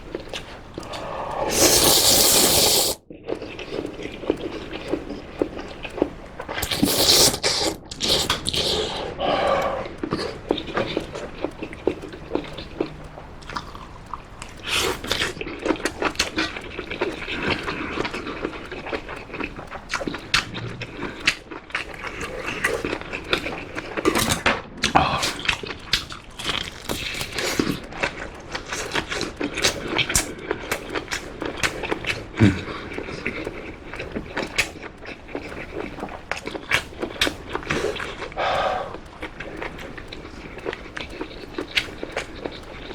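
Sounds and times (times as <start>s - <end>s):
slurping noodles: 0.0s - 27.8s, 28.6s - 42.9s
chewing: 0.0s - 42.9s
lip smacks: 0.0s - 42.9s.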